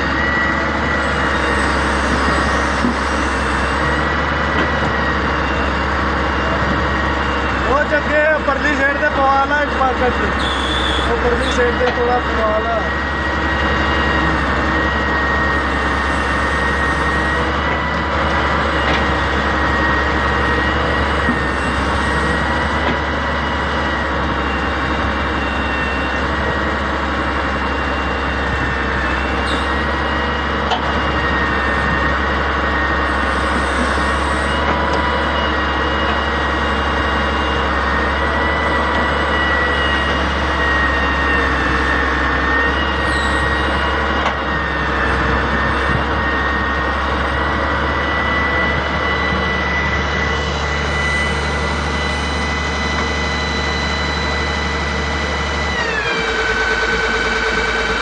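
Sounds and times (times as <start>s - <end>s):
diesel engine under load: 0.0s - 58.0s
hydraulic whine: 0.0s - 58.0s.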